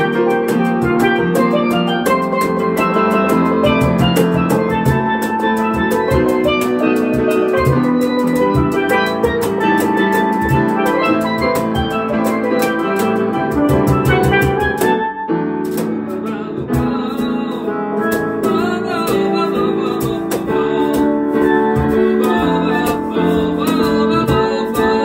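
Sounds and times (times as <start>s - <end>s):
hand drumming: 0.0s - 25.0s
steelpan melody: 0.0s - 25.0s.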